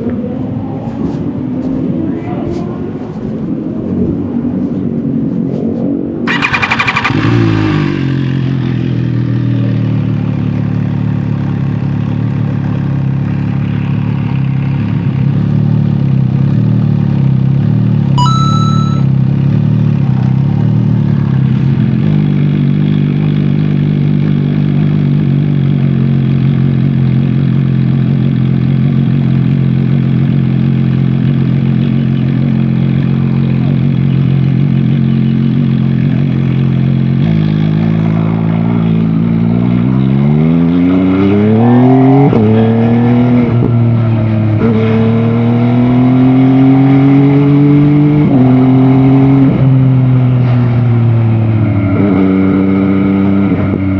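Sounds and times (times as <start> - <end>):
motorcycle engine accelerating: 6.2 - 53.9.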